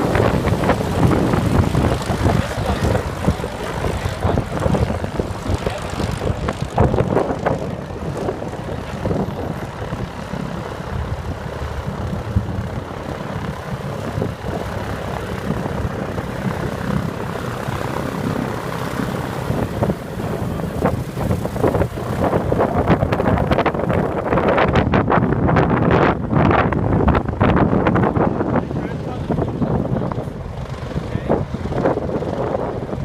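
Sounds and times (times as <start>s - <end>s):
propeller airplane engine running: 0.0s - 33.0s.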